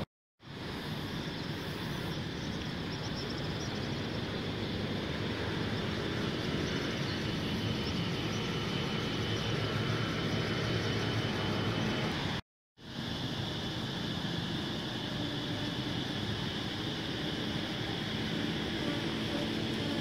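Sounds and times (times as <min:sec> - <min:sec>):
distant road traffic rumble: 0:00.4 - 0:20.0.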